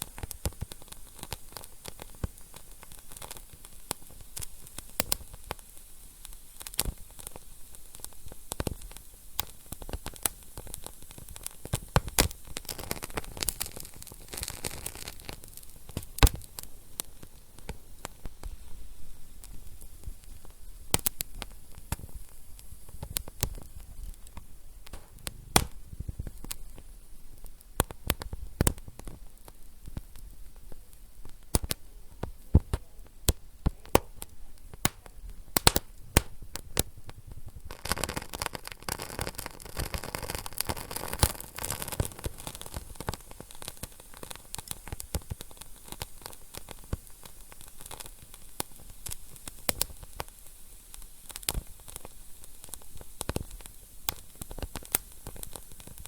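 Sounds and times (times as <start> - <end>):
steady hiss: 0.0 - 56.0
wood fire crackling and popping: 0.0 - 56.0.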